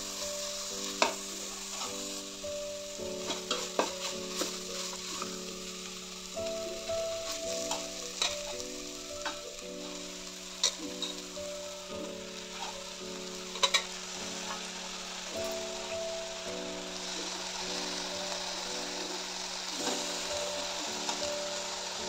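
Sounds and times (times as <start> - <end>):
onions sizzling in a pot: 0.0 - 22.0.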